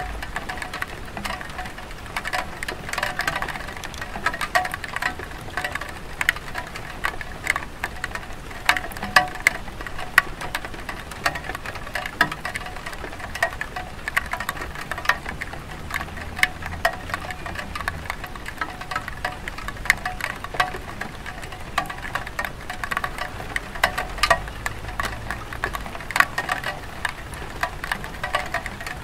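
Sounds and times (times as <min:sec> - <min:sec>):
light rain on a tile roof: 0:00.0 - 0:29.0.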